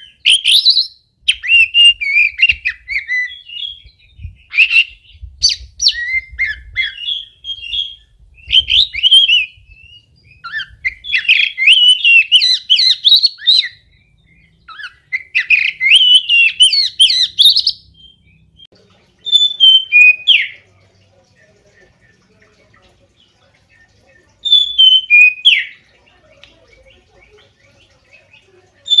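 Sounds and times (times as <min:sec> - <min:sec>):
bird singing whistles and chatter: 0:00.0 - 0:18.5, 0:19.2 - 0:20.7, 0:21.5 - 0:29.0.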